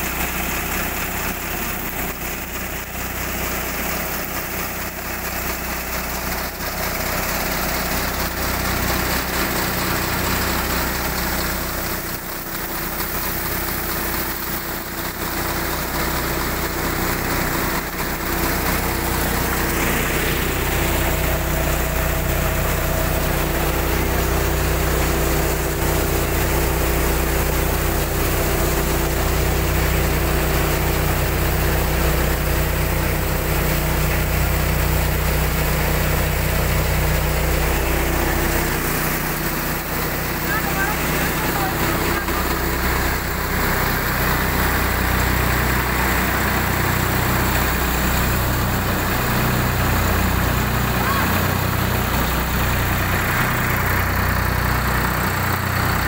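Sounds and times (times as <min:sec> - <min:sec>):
engine-driven thresher running: 0:00.0 - 0:56.0.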